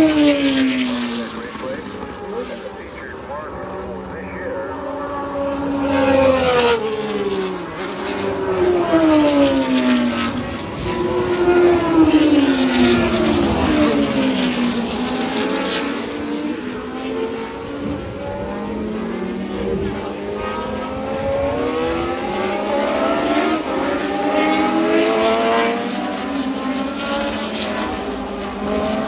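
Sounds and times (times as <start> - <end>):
race cars passing at speed: 0.0 - 29.0.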